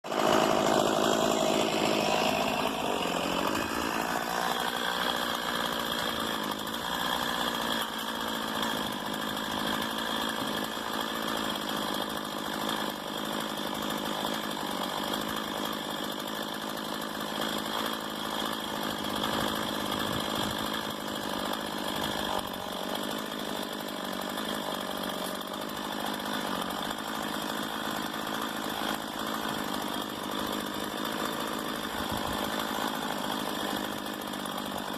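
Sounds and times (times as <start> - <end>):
chainsaw running: 0.0 - 34.9.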